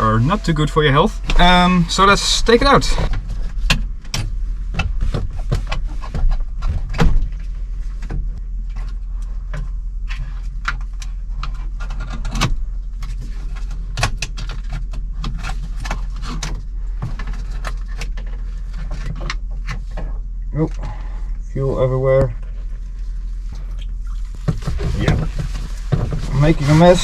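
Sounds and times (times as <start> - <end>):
low hum: 0.0 - 13.8, 14.7 - 27.0.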